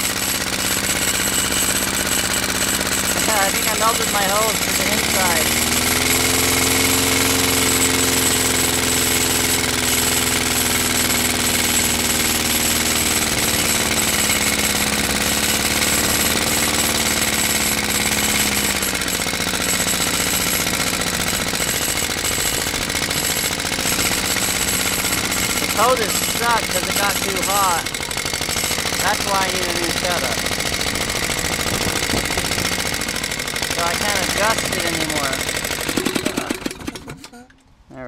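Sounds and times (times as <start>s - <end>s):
lawn mower engine running: 0.0s - 37.3s.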